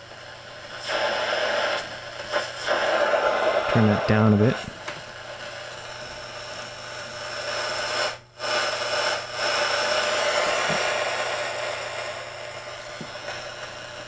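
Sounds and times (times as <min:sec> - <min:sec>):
faint steady radio whistle: 0:00.4 - 0:04.6, 0:05.3 - 0:14.0
shortwave radio static: 0:00.4 - 0:14.0.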